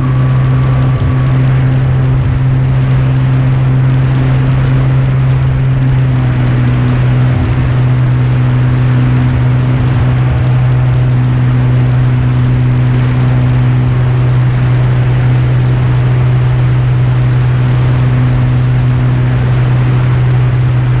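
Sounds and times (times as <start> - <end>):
aircraft engine and propeller drone: 0.0 - 21.0
wind rush over microphone: 0.0 - 21.0.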